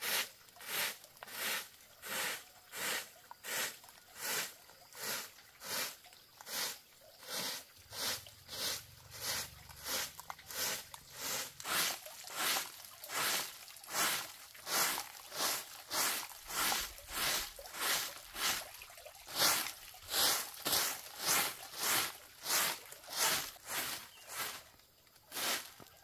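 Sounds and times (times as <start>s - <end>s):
hand scraping strokes: 0.0s - 18.7s, 19.3s - 24.7s, 25.3s - 26.0s.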